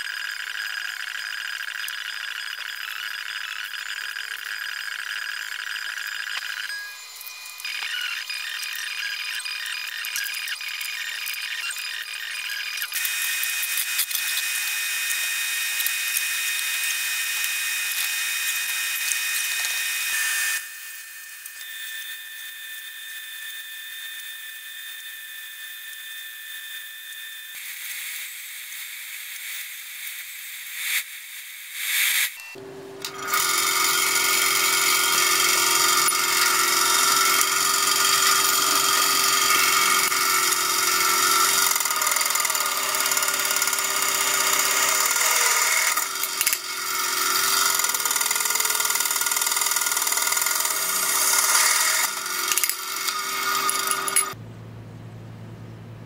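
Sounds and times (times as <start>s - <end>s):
drill press drilling steel: 0.0s - 27.8s, 33.0s - 54.4s
high-pitched machine noise: 0.0s - 54.4s.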